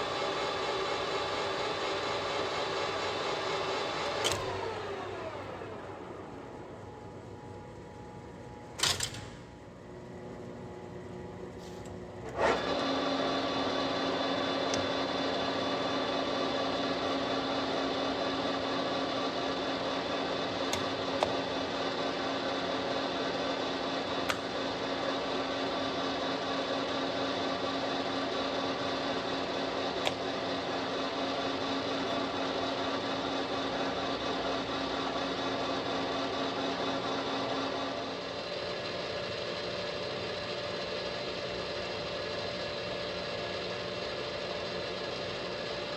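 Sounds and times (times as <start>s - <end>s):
lathe running with hum and whine: 0.0s - 8.8s, 9.6s - 45.9s.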